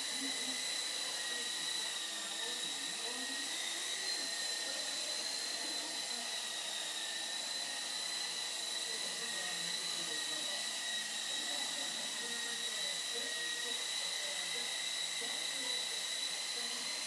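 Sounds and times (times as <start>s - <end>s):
small electric motor whine: 0.0s - 17.0s.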